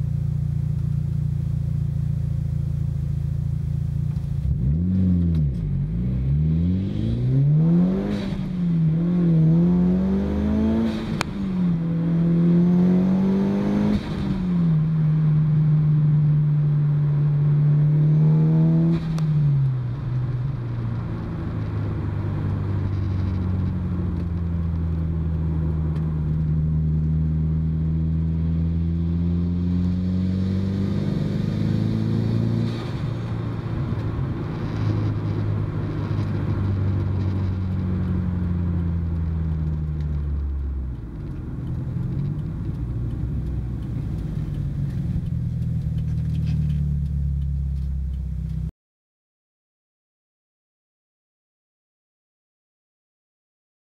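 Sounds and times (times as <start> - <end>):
car engine accelerating through gears: 2.8 - 48.7.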